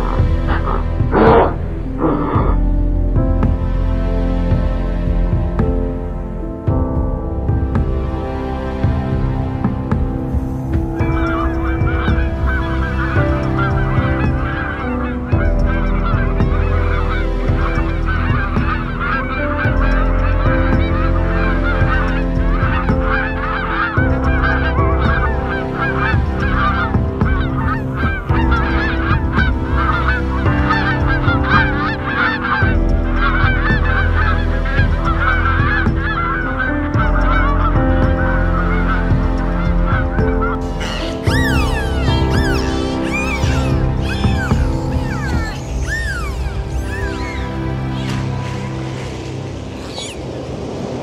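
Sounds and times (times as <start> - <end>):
geese honking and cackling: 0.0 - 2.7, 10.9 - 50.8
steady low tones: 0.0 - 51.0.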